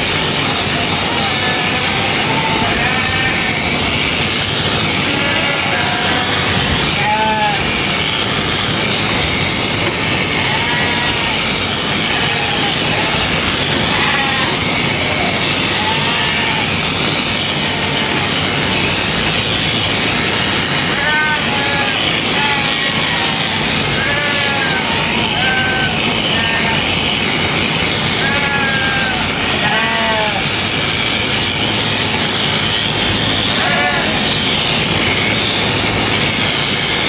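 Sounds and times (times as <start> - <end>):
constant loud noise: 0.0 - 37.0
sheep bleating: 0.1 - 35.6.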